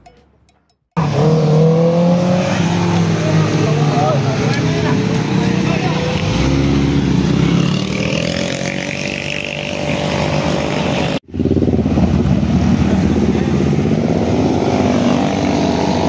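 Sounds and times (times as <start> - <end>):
car and motorcycle engines passing: 1.0 - 16.0.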